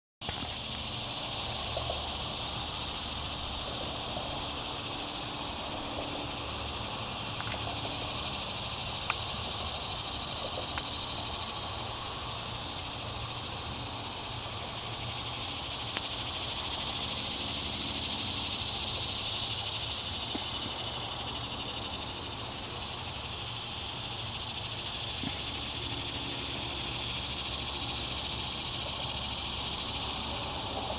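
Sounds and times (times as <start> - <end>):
insect chorus buzzing: 0.2 - 30.9.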